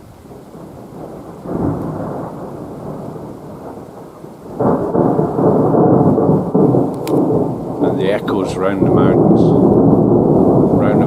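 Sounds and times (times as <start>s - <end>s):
thunder rumbling and echoing: 0.3s - 11.0s.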